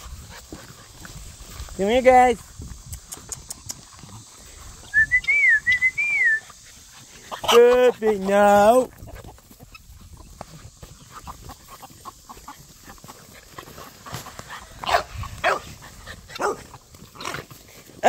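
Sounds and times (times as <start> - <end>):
puppies barking and yipping: 3.0 - 18.0.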